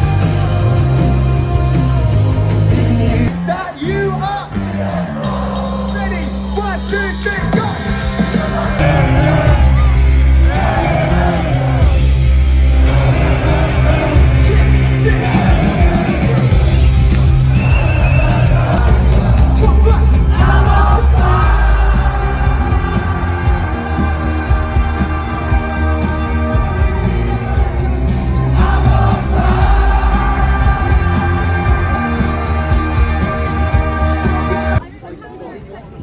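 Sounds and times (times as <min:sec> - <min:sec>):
heavy bass: 0:00.0 - 0:34.8
live rock band with singer: 0:00.0 - 0:34.8
crowd yelling and shouting: 0:00.0 - 0:35.0.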